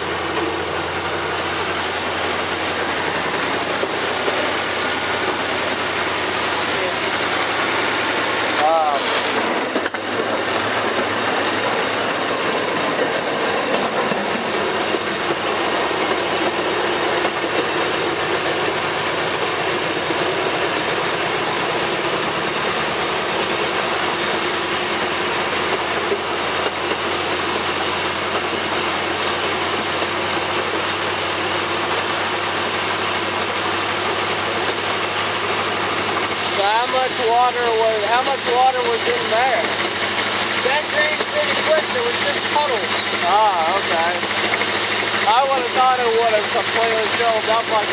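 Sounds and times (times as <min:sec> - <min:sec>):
diesel engine running: 0:00.0 - 0:47.9
wheel and rail noise: 0:00.0 - 0:47.9.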